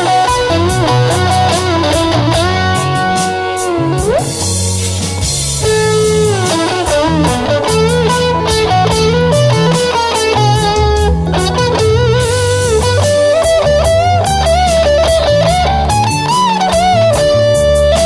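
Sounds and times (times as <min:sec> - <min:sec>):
bass backing track: 0:00.0 - 0:18.0
drums backing track: 0:00.0 - 0:18.0
overdriven electric guitar lead: 0:00.0 - 0:18.0.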